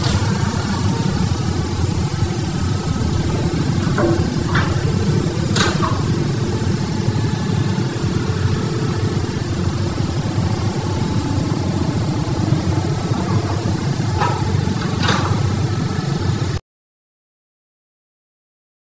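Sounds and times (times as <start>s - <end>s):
heavy diesel engines rumbling: 0.0s - 16.6s.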